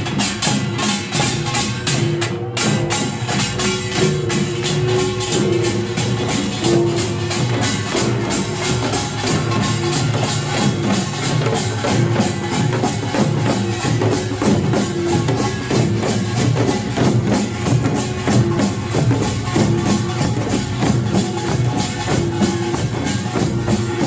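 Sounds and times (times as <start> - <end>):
drums beating: 0.0 - 24.0
small gongs clanging: 0.0 - 24.0.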